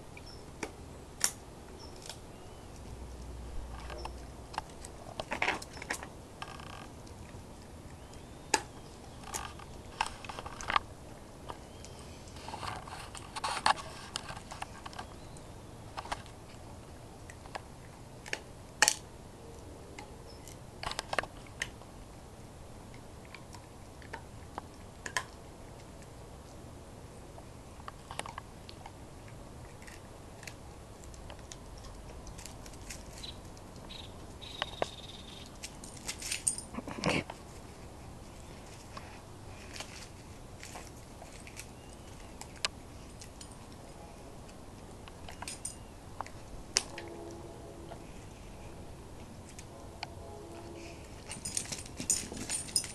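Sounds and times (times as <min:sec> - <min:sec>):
dog chewing stick crunches: 0:00.2 - 0:21.8, 0:22.9 - 0:26.6, 0:27.4 - 0:47.4.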